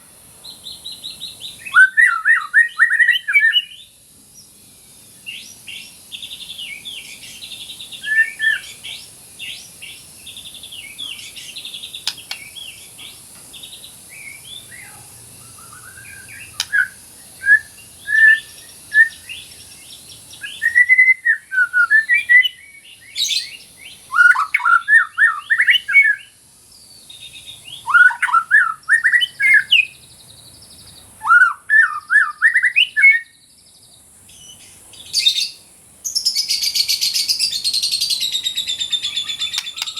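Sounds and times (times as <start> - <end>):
bird singing: 0.0 - 39.9
steady high hiss: 0.0 - 39.9.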